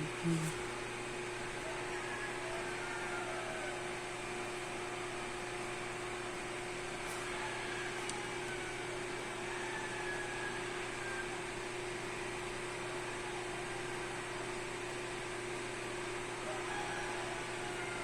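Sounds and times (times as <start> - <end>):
ventilation fan humming: 0.0 - 18.0.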